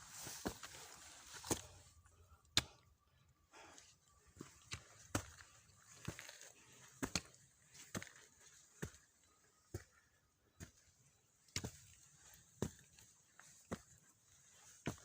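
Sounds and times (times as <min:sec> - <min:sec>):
footsteps on a trail: 0:00.0 - 0:02.0, 0:03.6 - 0:15.0.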